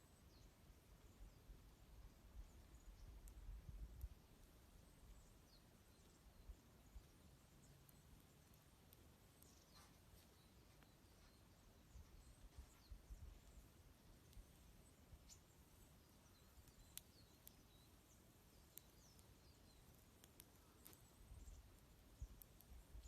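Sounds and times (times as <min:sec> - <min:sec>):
campfire crackles: 0:00.0 - 0:23.0
songbirds chirping: 0:00.0 - 0:23.0.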